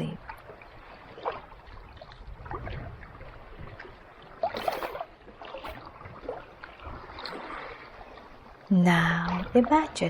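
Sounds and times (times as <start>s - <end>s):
kayak paddle splashing in water: 0.2s - 8.4s.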